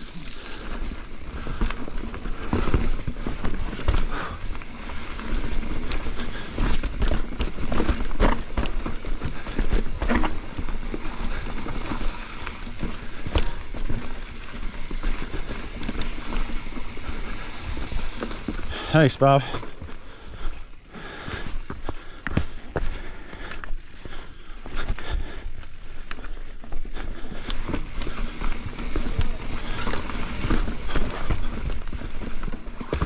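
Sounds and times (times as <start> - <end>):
bike knocking and rattling on rocks: 0.0 - 33.0.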